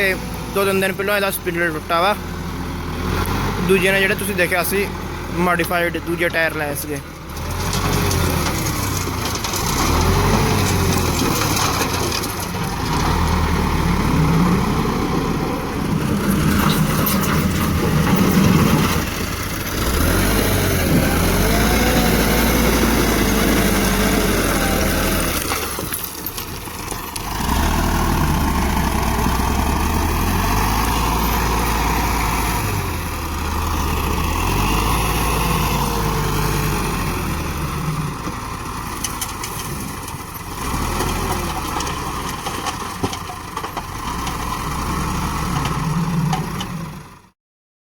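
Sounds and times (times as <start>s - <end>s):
tractor diesel engines revving: 0.0s - 47.3s.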